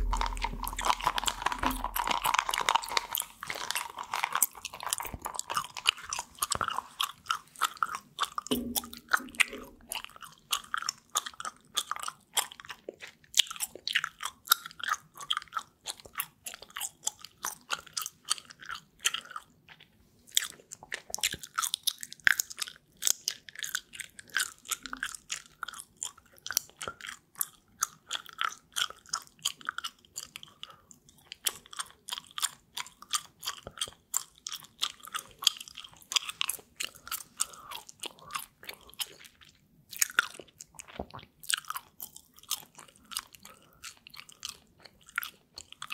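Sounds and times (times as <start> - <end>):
gum chewing mouth clicks: 0.0 - 45.9.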